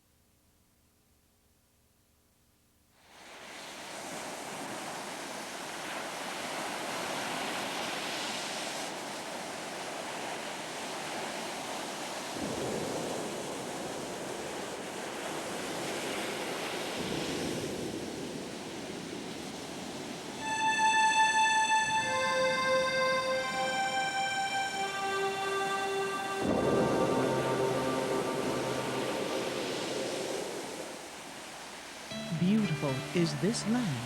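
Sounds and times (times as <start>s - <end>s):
waves breaking: 3.2s - 34.0s.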